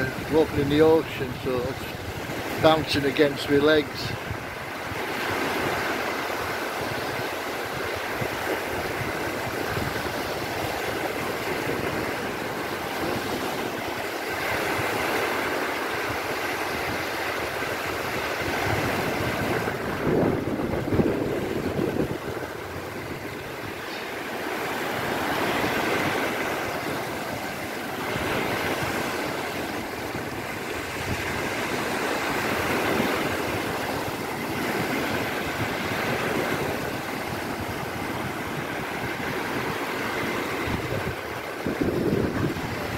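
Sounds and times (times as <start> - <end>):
sea surf breaking: 0.0 - 42.9
wind buffeting microphone: 0.0 - 42.9.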